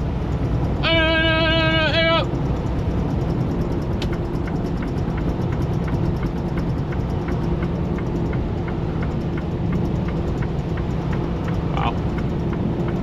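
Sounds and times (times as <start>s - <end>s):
truck engine running: 0.0s - 13.0s
turn signal ticking: 0.0s - 13.0s.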